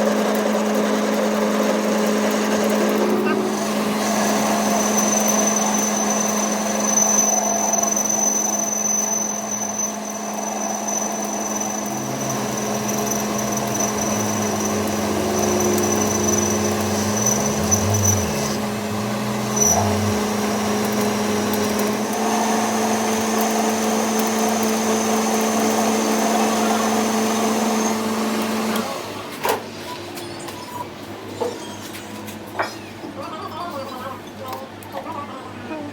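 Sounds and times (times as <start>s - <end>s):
power tool motor whining: 0.3s - 29.2s.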